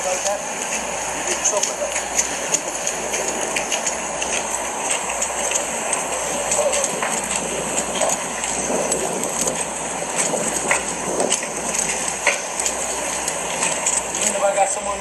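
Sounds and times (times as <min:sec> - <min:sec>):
faint clicks and rustles: 0:00.0 - 0:15.0
steady rushing noise: 0:00.0 - 0:15.0.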